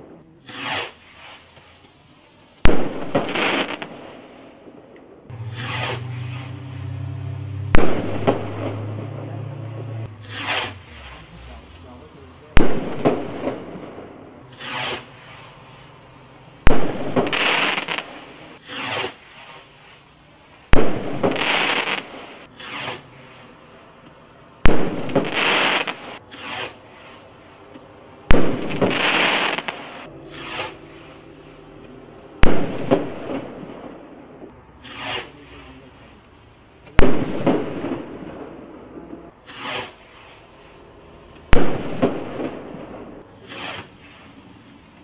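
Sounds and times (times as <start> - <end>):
rocket whoosh: 0.0 - 1.8, 2.6 - 11.8, 12.4 - 20.0, 20.7 - 23.6, 24.6 - 34.2, 34.8 - 36.2, 39.3 - 45.0
firework bursting with bang: 0.0 - 45.0
firework crackle: 0.0 - 45.0.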